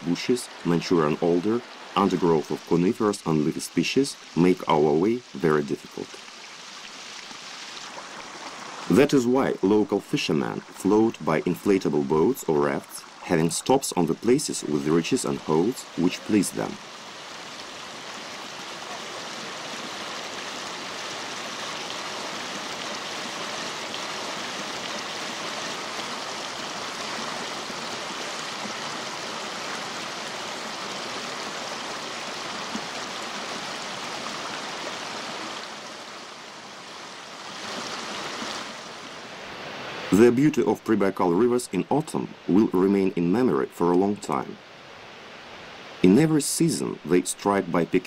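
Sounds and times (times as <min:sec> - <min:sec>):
river rushing over rapids: 0:00.0 - 0:40.2.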